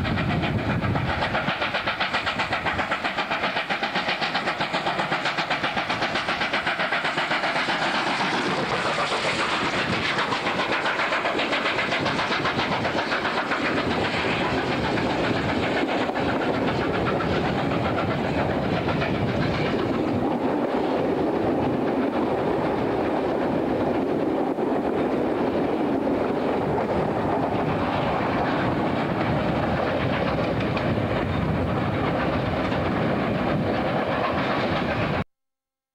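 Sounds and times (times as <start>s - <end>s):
steam locomotive working: 0.0s - 35.2s
train wheels on rail: 0.0s - 35.2s.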